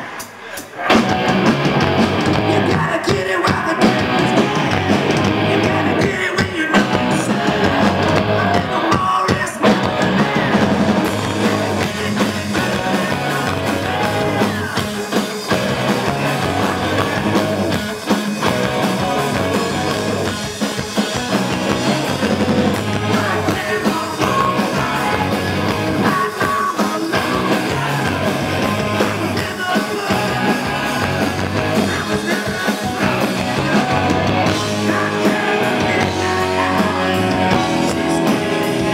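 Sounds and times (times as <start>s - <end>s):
drums: 0.0s - 38.9s
electric guitars: 0.0s - 38.9s
person singing: 2.2s - 17.8s, 21.3s - 38.9s.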